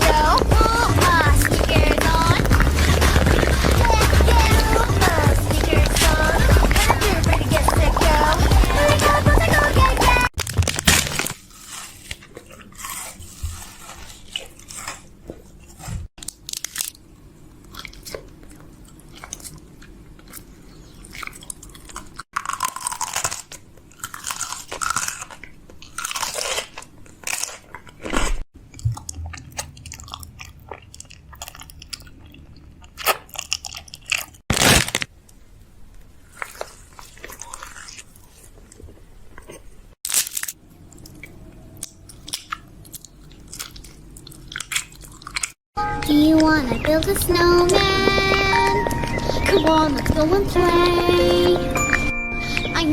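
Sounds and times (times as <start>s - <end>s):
crunching and chewing: 0.0s - 52.9s.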